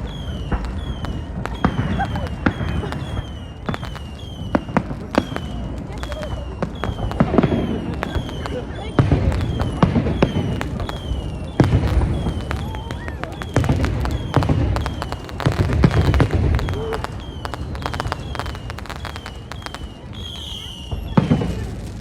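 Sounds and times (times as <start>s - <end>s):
fireworks crackling: 0.0s - 22.0s
fireworks shells booming: 0.0s - 22.0s.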